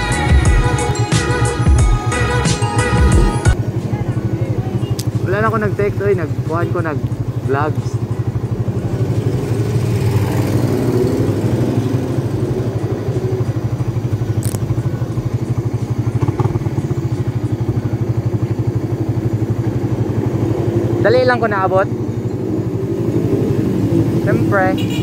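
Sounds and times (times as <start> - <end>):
motorcycle engine idling: 0.1 - 25.0.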